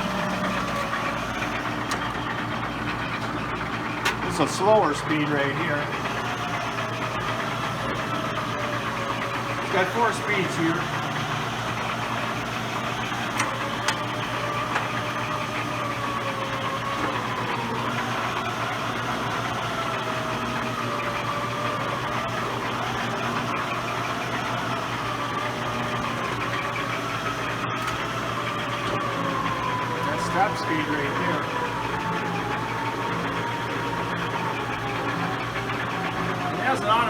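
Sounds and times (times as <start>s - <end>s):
metal shaper machine running: 0.0s - 37.0s
wavering gear whine: 0.0s - 37.0s.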